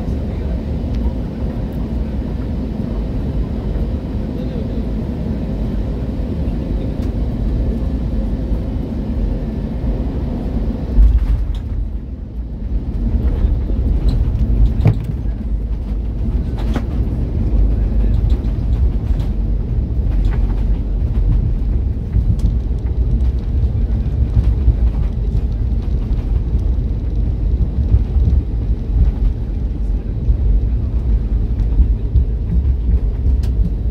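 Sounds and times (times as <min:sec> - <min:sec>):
engine and airflow rumble: 0:00.0 - 0:33.9
runway rumble with rattles: 0:00.0 - 0:33.9.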